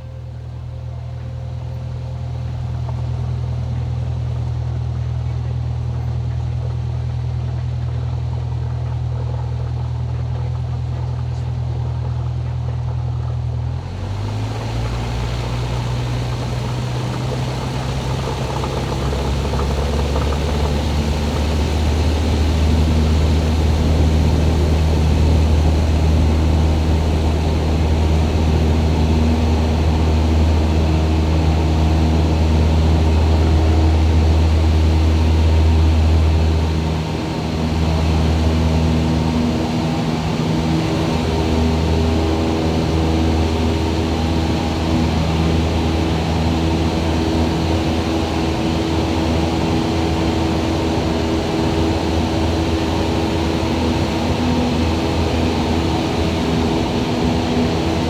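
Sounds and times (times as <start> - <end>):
propeller plane engine drone: 0.0 - 58.0.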